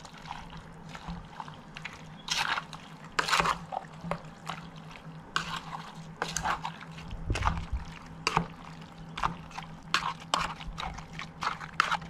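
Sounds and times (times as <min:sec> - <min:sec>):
hands squelching wet marinade: 0:00.0 - 0:12.0.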